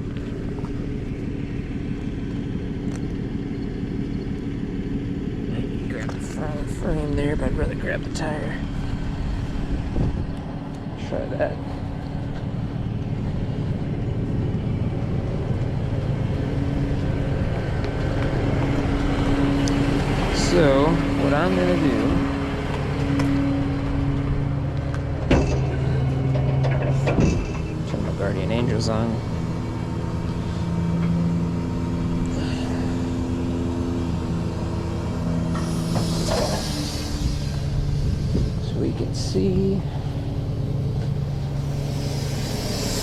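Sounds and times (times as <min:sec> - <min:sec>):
steady hum: 0:00.0 - 0:43.0
truck engine rumbling: 0:00.0 - 0:43.0.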